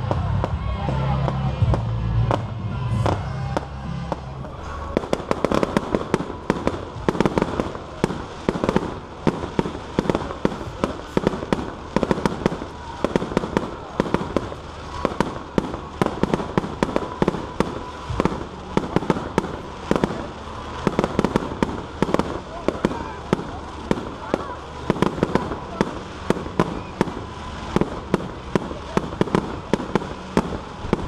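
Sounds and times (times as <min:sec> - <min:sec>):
fireworks bangs and pops: 0:00.0 - 0:31.0.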